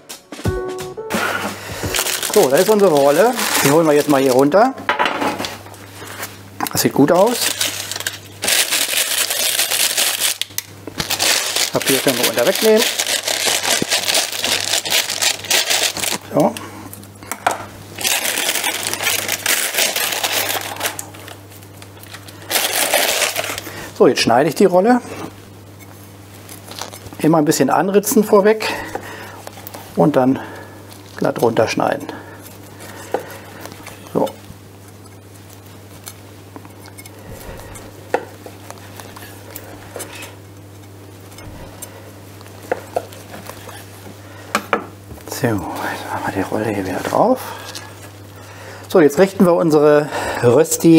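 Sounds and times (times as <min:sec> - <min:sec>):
baking paper rustling: 0:01.2 - 0:04.8, 0:05.4 - 0:16.5, 0:17.9 - 0:44.4, 0:45.3 - 0:48.2.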